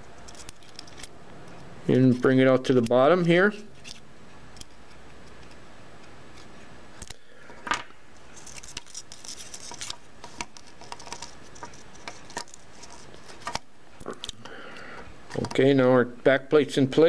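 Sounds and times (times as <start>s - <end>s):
plastic parts clicking and rubbing: 0.0s - 14.4s, 15.0s - 15.7s.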